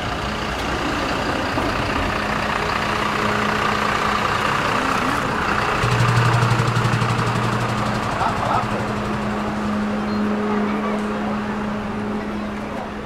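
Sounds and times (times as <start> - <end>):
street traffic: 0.0 - 13.0
vehicle engine running: 0.0 - 13.0.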